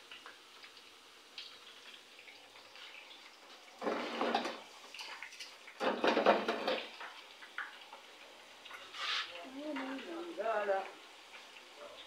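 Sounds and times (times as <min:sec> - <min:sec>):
chips deep-frying in oil: 0:00.0 - 0:12.0.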